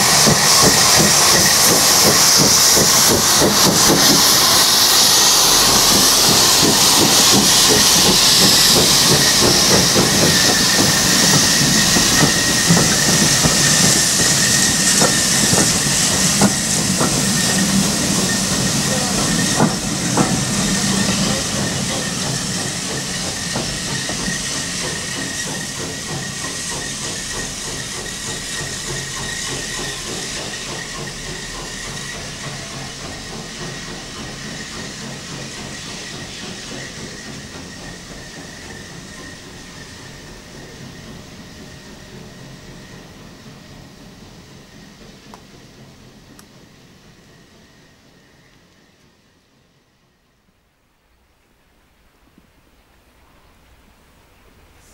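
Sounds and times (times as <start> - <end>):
steam hiss: 0.0 - 50.2, 52.9 - 54.9
train coaches running: 0.0 - 54.9.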